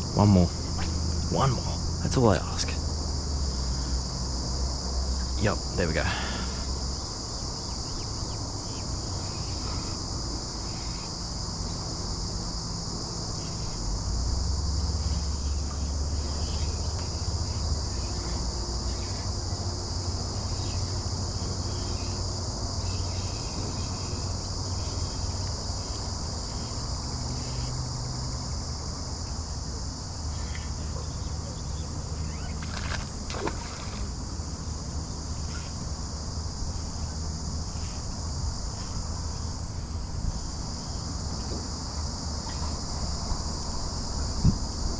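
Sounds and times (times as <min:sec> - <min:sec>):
cicadas singing: 0:00.0 - 0:44.9.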